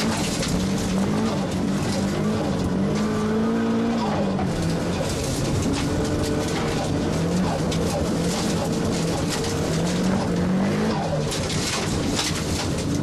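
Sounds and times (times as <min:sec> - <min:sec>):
race car engine revving: 0:00.0 - 0:13.0
tyre and gravel noise: 0:00.0 - 0:13.0.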